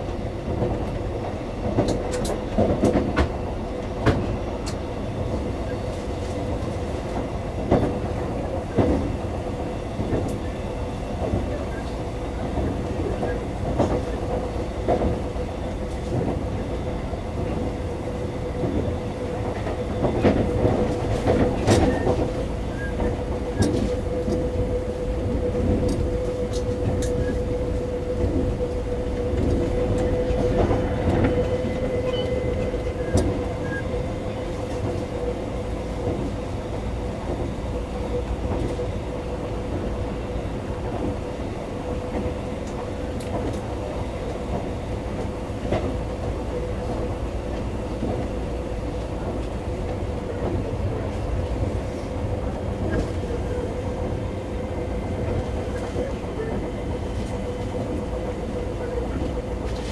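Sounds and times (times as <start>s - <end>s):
train hum: 0.0s - 59.9s
train rumble: 0.0s - 59.9s.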